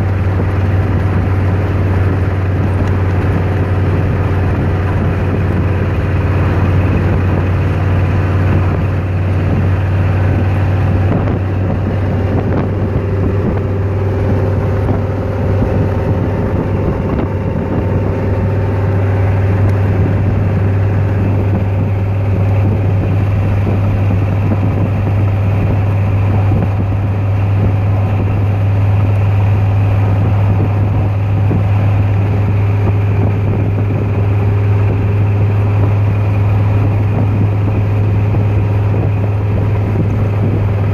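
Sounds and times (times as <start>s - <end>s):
car engine droning: 0.0s - 40.9s
wind on microphone: 0.0s - 40.9s.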